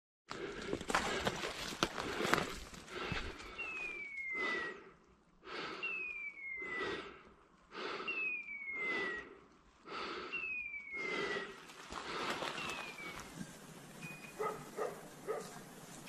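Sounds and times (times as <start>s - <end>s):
person breathing hard: 0.3s - 13.2s.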